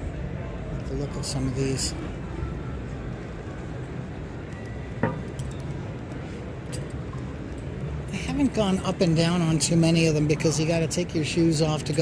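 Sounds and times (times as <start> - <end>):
indistinct crowd chatter: 0.0 - 12.0.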